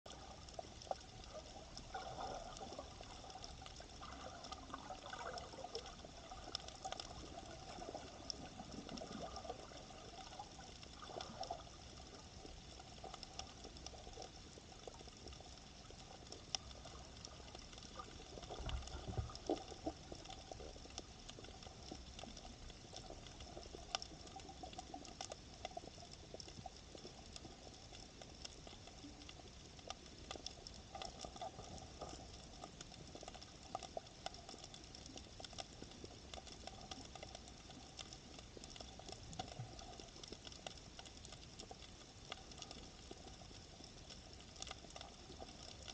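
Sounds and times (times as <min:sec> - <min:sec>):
rustling water movement: 0:00.1 - 0:45.9
sharp clicks and crackles: 0:00.1 - 0:45.9.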